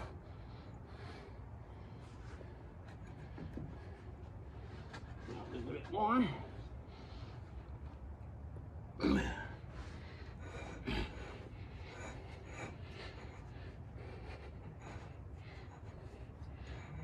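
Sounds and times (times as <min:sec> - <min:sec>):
man breathing with effort: 0:00.0 - 0:17.0.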